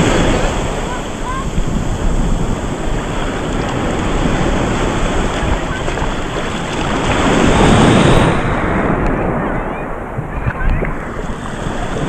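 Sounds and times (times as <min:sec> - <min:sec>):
waves breaking and washing: 0:00.0 - 0:12.0
wind buffeting microphone: 0:00.0 - 0:12.0.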